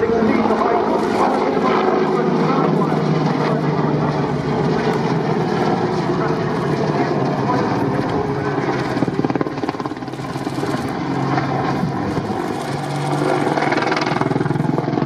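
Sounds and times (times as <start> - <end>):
helicopter rotors chopping: 0.0 - 15.0
steady low drone: 0.0 - 15.0.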